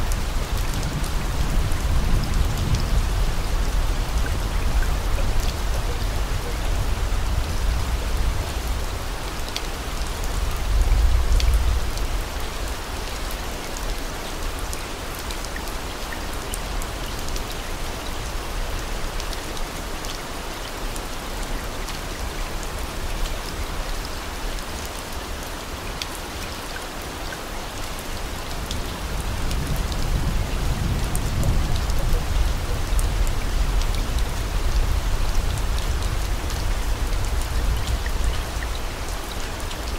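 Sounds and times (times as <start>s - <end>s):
rain-like hiss: 0.0s - 39.9s.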